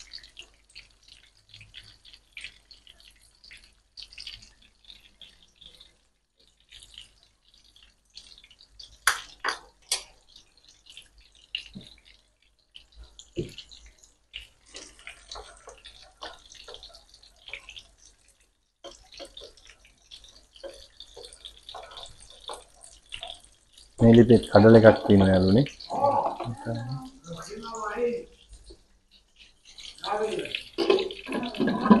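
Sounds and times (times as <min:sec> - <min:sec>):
chicken frying in oil: 0:00.0 - 0:32.0.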